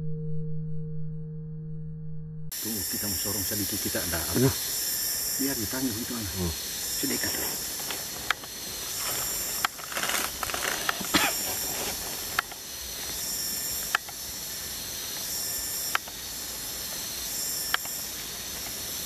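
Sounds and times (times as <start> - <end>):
insect chorus: 2.5 - 19.0.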